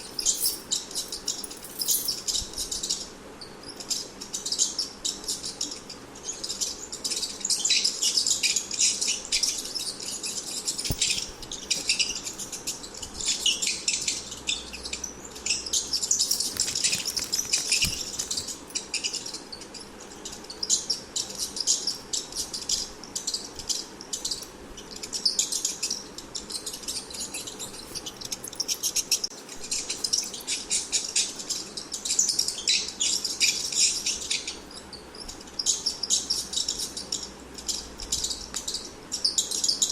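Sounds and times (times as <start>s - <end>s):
rats squeaking: 0.0s - 39.9s.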